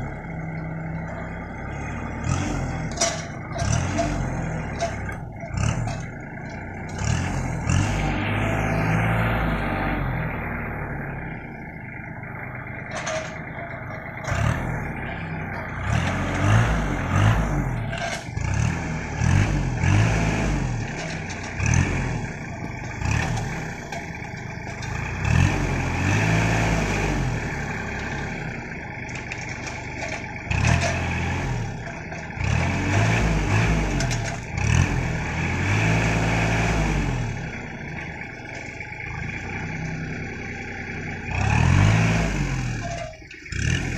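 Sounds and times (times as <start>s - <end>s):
tractor diesel engine revving: 0.0s - 43.9s.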